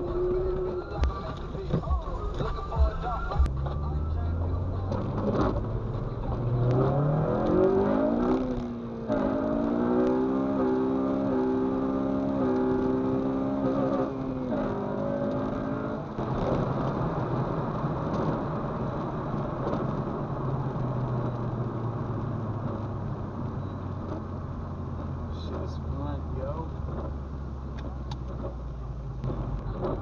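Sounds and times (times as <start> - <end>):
car engine accelerating: 0.0 - 30.0
tyre noise on wet road: 0.0 - 30.0.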